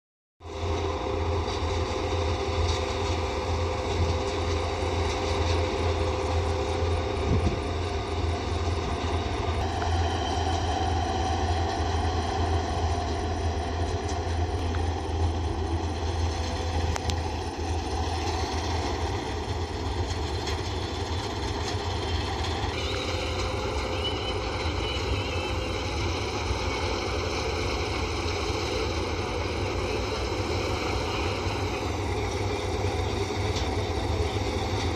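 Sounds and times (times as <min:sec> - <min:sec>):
combine harvester engine hum: 0:00.4 - 0:34.9
threshing machinery whirring: 0:00.6 - 0:34.9.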